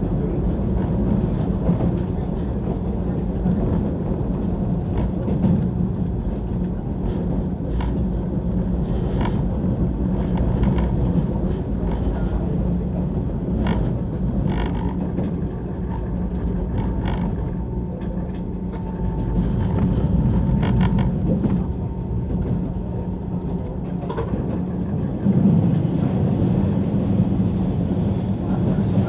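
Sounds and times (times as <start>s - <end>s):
train running rumble: 0.0s - 29.0s
sharp clicks from wheels on track: 0.4s - 26.6s.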